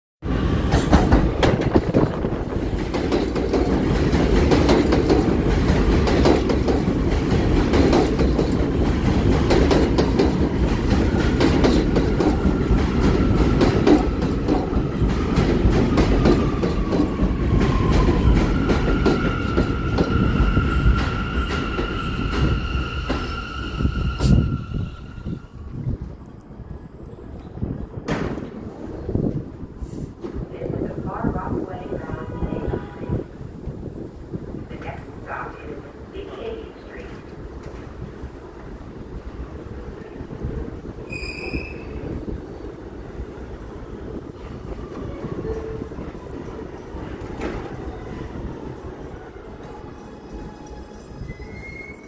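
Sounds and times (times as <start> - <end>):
high train whine: 0.2 - 52.0.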